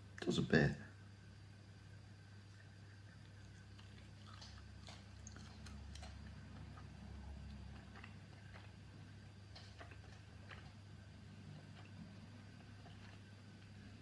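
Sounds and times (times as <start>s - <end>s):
low steady hum: 0.0s - 14.0s
chewing with mouth clicks: 2.3s - 14.0s.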